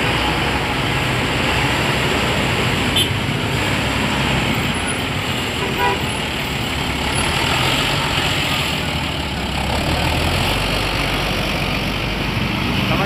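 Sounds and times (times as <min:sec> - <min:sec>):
bus diesel engine passing: 0:00.0 - 0:13.0.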